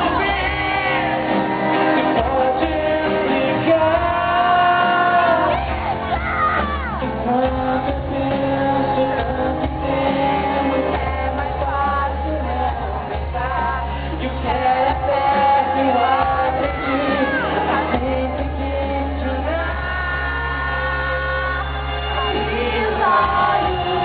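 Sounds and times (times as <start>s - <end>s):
lead vocals singing: 0.0s - 24.0s
live pop-rock band: 0.0s - 24.0s.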